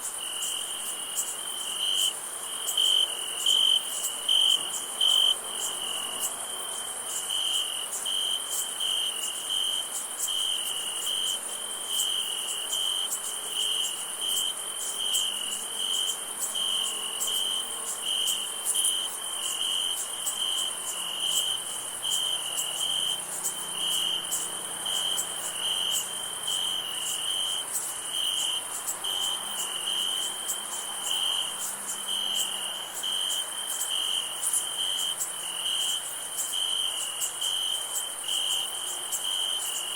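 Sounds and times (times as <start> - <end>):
crickets chirping: 0.0 - 39.9
high-pitched insect trill: 0.0 - 39.9.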